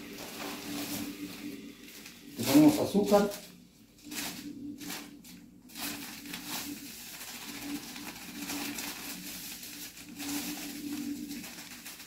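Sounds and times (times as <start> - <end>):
dove cooing: 0.0 - 12.0
packet rustling: 0.0 - 12.0.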